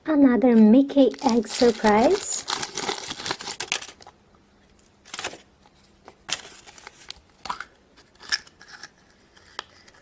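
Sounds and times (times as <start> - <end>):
packaging crackles and rustles: 1.0 - 4.2, 4.8 - 10.0.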